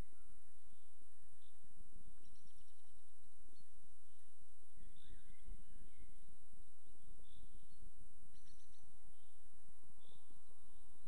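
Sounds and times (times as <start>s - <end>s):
faint bird chirps: 0.0s - 11.0s
wind rumble on microphone: 0.0s - 11.0s.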